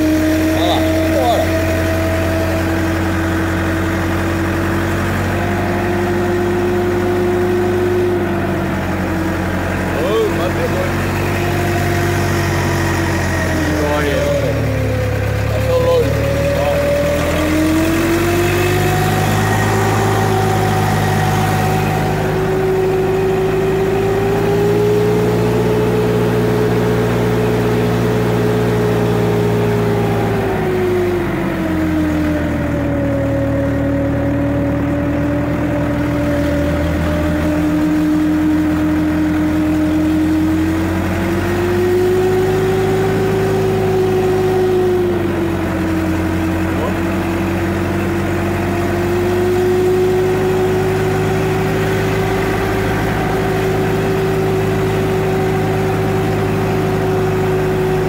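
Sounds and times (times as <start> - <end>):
tractor engine running: 0.0 - 58.0
whine over engine: 0.0 - 58.0.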